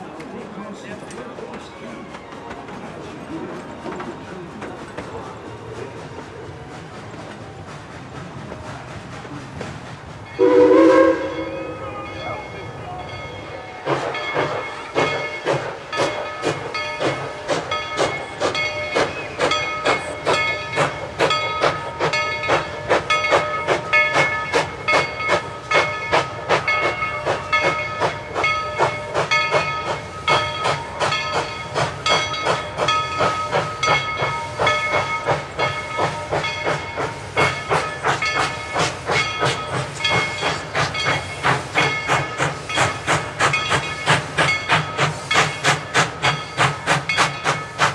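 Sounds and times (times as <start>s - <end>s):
steam locomotive chuffing: 0.0s - 47.9s
steam hissing: 2.4s - 47.9s.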